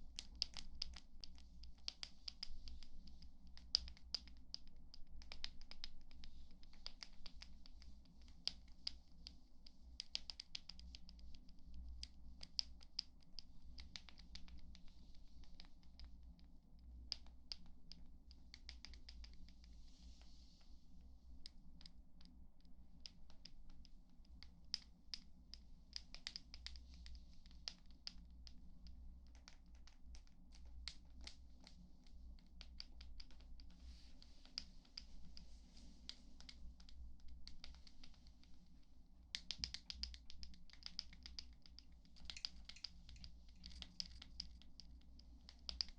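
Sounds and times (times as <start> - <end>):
light scratching and tapping: 0.0 - 20.8, 23.0 - 45.9
soft brushing hiss: 0.0 - 45.9.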